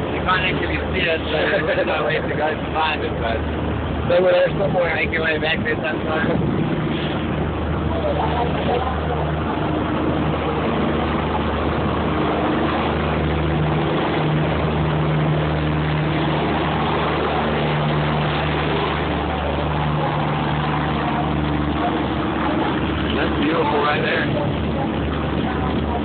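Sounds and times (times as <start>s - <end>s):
boat engine humming: 0.0s - 26.0s
water wash: 0.0s - 26.0s
wind noise: 2.2s - 26.0s.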